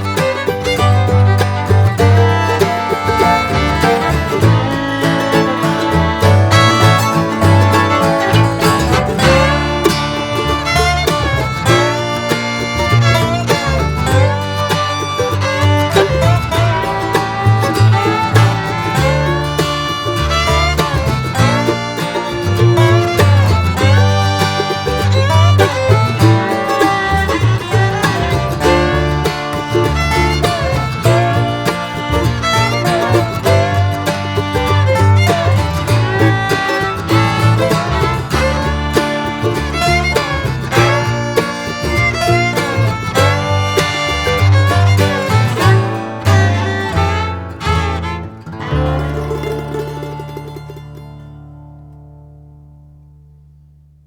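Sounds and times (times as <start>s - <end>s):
fiddle: 0.0s - 52.0s
guitar: 0.0s - 54.0s
plucked banjo: 0.0s - 54.0s
rhythmic bass: 0.0s - 54.0s.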